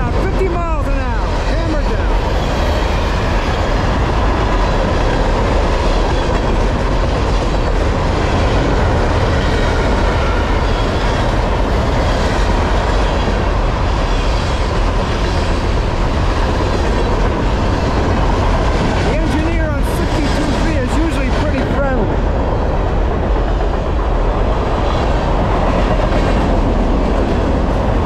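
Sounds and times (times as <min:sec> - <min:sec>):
freight cars rumbling on rails: 0:00.0 - 0:28.0.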